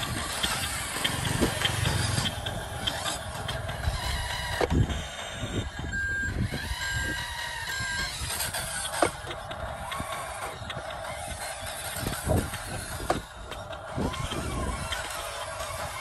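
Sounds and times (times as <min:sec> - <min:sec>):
light regular ticking: 0:00.0 - 0:16.0
toy truck motor running: 0:00.0 - 0:16.0.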